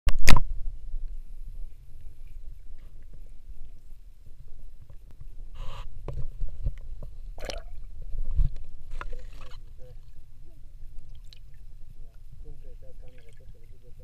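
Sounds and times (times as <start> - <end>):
underwater low rumble: 0.4 - 14.0.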